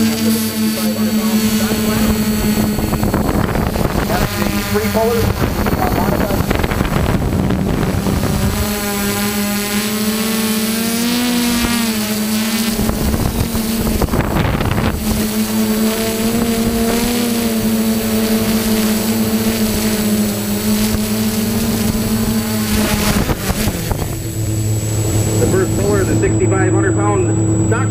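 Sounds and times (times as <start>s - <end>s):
wind on microphone: 0.0s - 26.6s
drone propellers buzzing: 0.0s - 27.9s.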